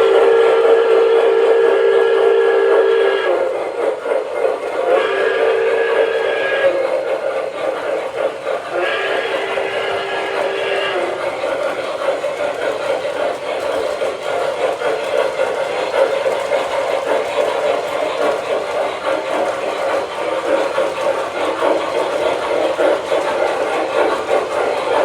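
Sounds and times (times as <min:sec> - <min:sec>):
model locomotive wheels and motor rumbling: 0:00.0 - 0:25.0.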